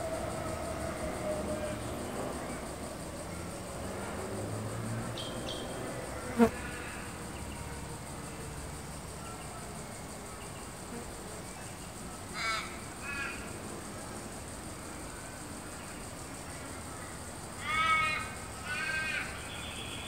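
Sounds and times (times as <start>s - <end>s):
faint insect buzz: 0.0s - 20.0s.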